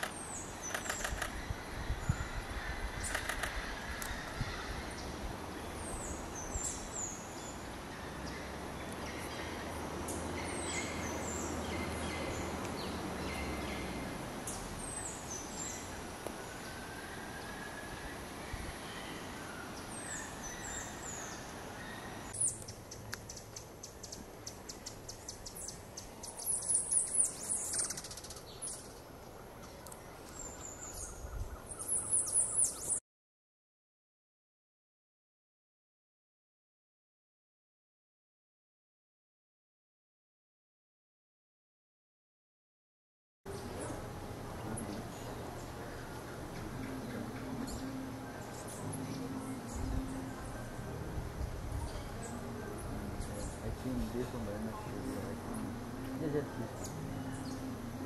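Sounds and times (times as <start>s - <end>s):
background hiss: 0.0s - 33.0s, 43.5s - 58.0s.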